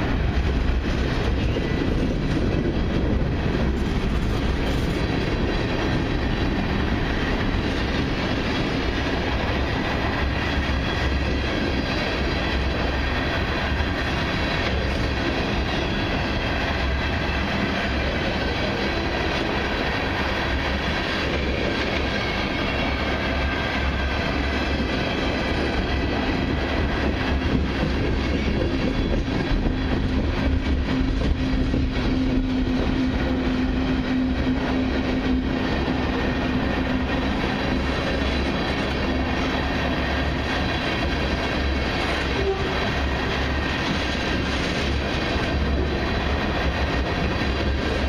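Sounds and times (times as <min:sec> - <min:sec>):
freight train wheels clacking: 0:00.0 - 0:48.0.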